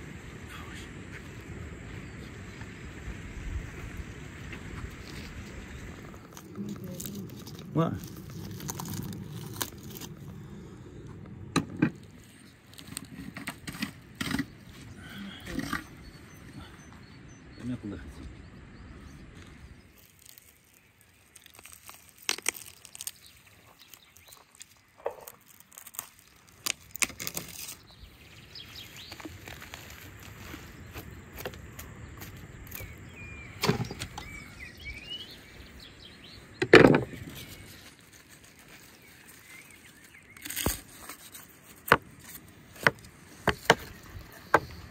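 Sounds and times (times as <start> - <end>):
birds chirping faintly: 0.1 - 44.9
crackling of roasted crust: 4.6 - 16.2, 19.3 - 44.9.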